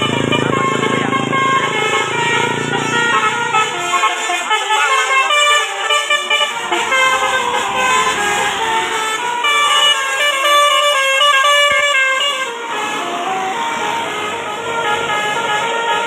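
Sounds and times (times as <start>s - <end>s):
multi-tone air horn tune: 0.0s - 16.0s.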